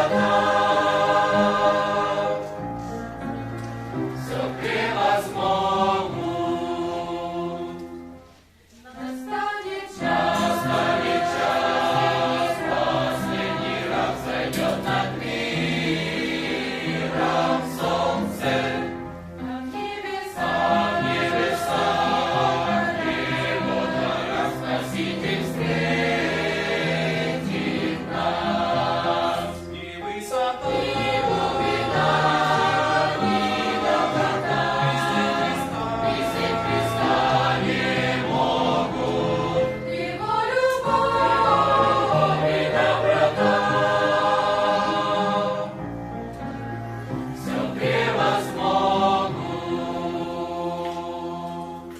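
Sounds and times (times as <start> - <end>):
youth choir singing: 0.0 - 2.9, 4.0 - 45.9, 47.3 - 51.9.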